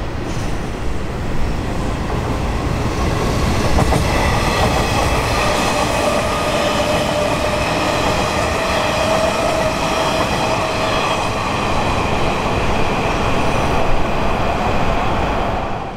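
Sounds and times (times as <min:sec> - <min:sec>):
steady train whine: 0:00.0 - 0:15.9
train wheels rushing on rails: 0:00.0 - 0:15.9.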